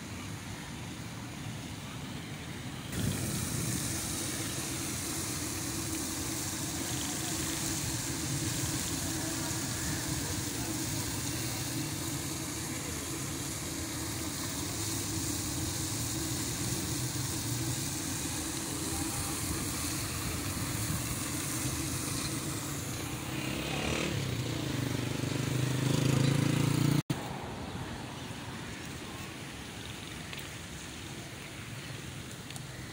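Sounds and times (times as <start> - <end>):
continuous hiss: 0.0 - 32.9.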